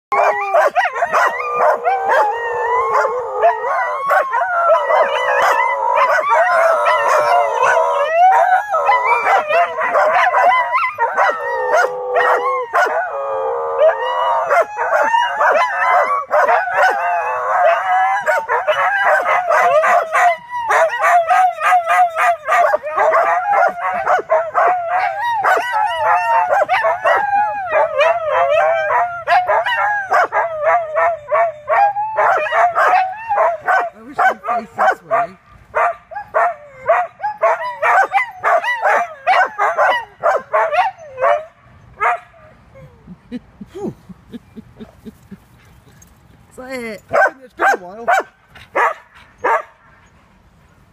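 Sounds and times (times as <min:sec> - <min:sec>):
dog barking and yipping: 0:00.1 - 0:02.3, 0:02.9 - 0:13.0, 0:14.5 - 0:42.3, 0:47.0 - 0:49.8
dogs howling: 0:00.1 - 0:41.5.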